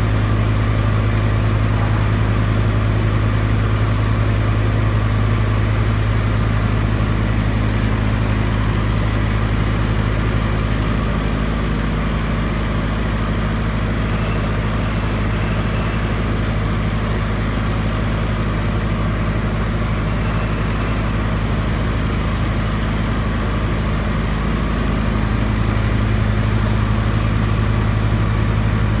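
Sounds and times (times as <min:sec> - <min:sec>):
diesel generator humming: 0:00.0 - 0:29.0.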